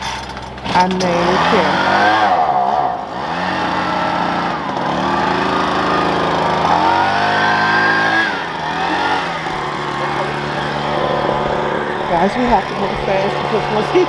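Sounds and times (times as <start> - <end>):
leaf blower revving: 0.0 - 14.0.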